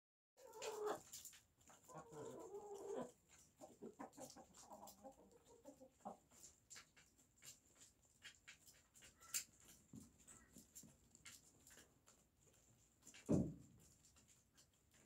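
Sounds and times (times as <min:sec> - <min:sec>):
hens clucking: 0:00.4 - 0:13.2.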